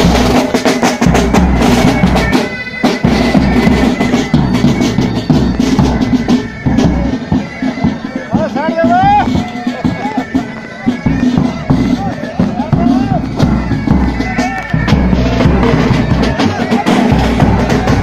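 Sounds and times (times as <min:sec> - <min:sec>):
bagpipes droning: 0:00.0 - 0:18.0
snare drums rattling: 0:00.0 - 0:18.0.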